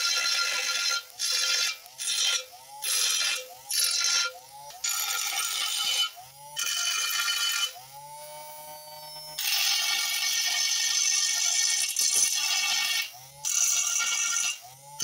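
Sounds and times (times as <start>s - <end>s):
abrasive disc grinding steel: 0.0s - 15.0s
small motor whining: 0.0s - 15.0s.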